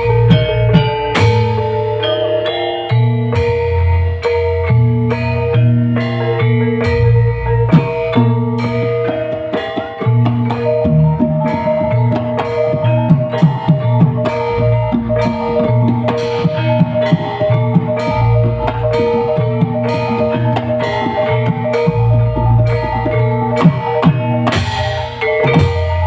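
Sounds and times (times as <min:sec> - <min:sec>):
deep bass line: 0:00.0 - 0:02.1, 0:03.0 - 0:09.1, 0:10.2 - 0:26.0
live band music: 0:00.0 - 0:26.0
struck percussion: 0:00.0 - 0:26.0.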